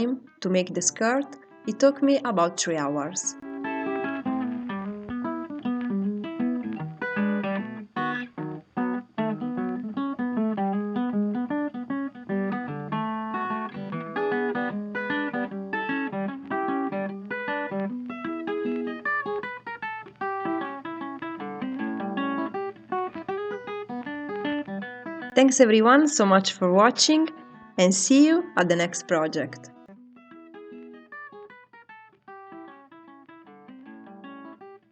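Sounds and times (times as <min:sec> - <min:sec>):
acoustic blues guitar: 0:00.0 - 0:34.9.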